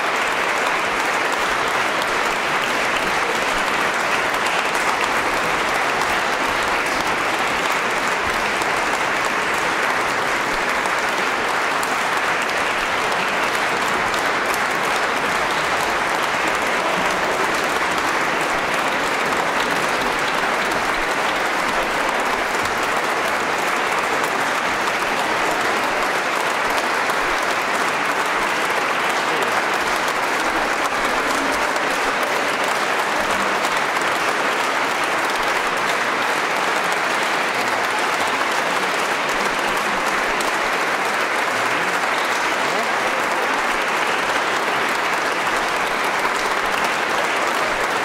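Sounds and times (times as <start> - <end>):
audience applauding: 0.0 - 48.0.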